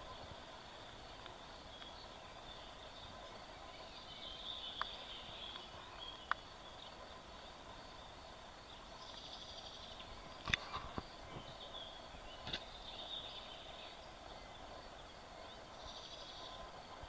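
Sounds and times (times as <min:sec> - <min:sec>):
steady background hiss: 0:00.0 - 0:17.0
faint high-pitched chirping: 0:01.0 - 0:17.0.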